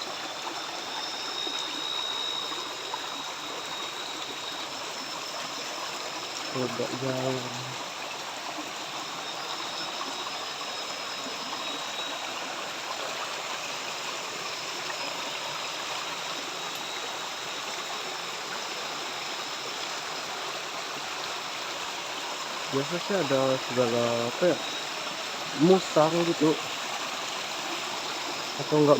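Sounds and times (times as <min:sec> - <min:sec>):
river flowing: 0:00.0 - 0:28.9.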